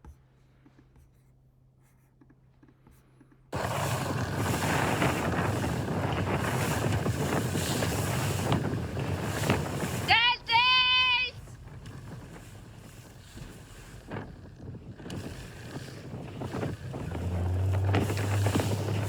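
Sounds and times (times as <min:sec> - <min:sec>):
water rushing past motorboat: 0:03.6 - 0:19.0
wind buffeting microphone: 0:03.6 - 0:19.0.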